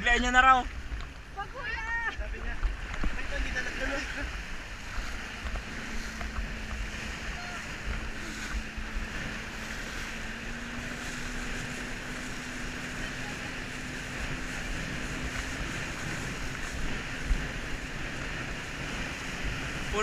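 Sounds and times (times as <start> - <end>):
motorboat engine hum: 0.0 - 20.0
wind and water spray: 0.0 - 20.0
bump or splash: 0.6 - 20.0.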